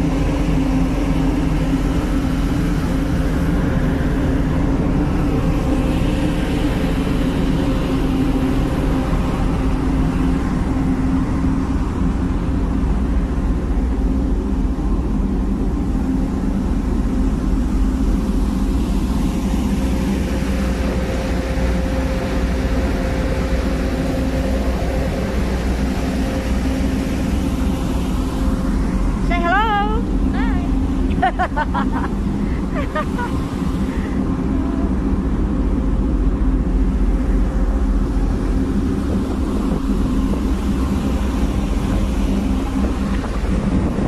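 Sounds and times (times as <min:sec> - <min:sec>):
ship engine drone: 0:00.0 - 0:44.0
wind rumble on microphone: 0:00.0 - 0:44.0.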